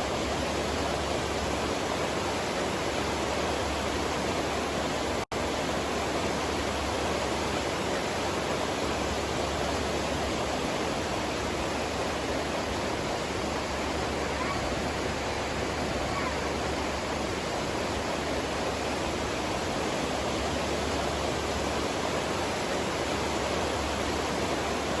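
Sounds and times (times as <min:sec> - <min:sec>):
river water flowing: 0:00.0 - 0:25.0.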